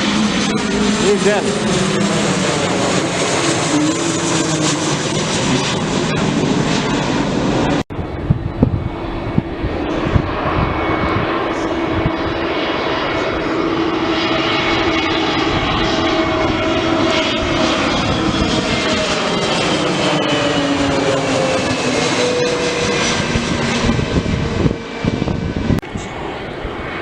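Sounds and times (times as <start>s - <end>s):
airliner engines passing overhead: 0.0s - 27.0s.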